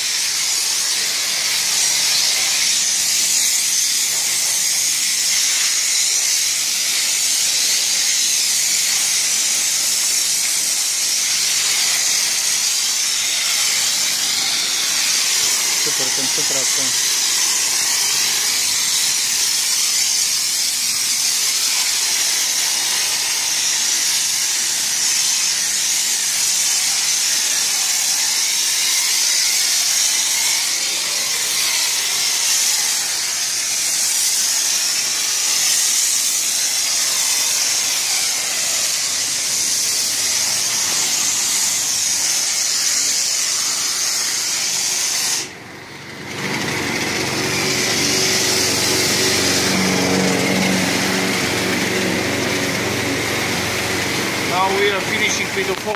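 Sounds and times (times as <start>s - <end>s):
foam lance spraying hiss: 0.0s - 45.5s, 53.2s - 55.9s.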